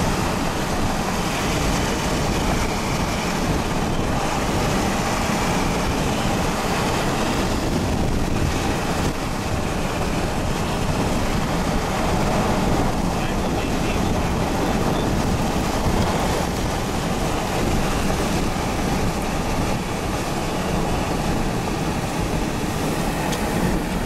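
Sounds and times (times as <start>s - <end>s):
vehicle road noise: 0.0s - 24.0s
wind buffeting microphone: 0.0s - 24.0s.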